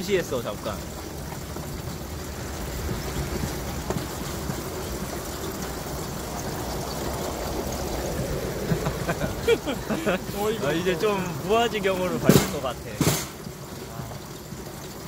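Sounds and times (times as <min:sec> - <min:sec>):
steel wheels rolling on rails: 0:00.0 - 0:13.5.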